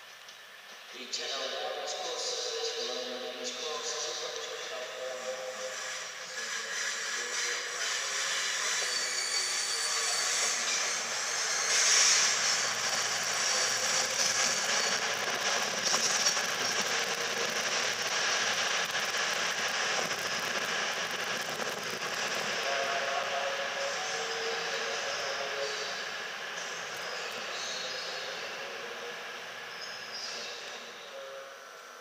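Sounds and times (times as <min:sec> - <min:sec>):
diesel train running: 0:01.9 - 0:32.0.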